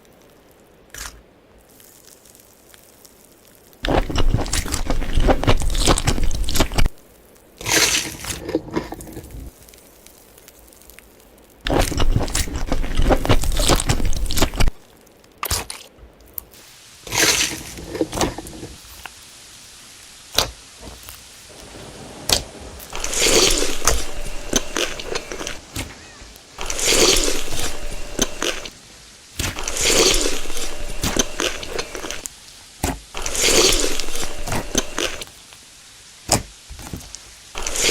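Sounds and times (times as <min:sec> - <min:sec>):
crunchy chewing of food: 0:00.0 - 0:19.2, 0:20.4 - 0:28.8, 0:29.4 - 0:35.3, 0:36.4 - 0:37.9.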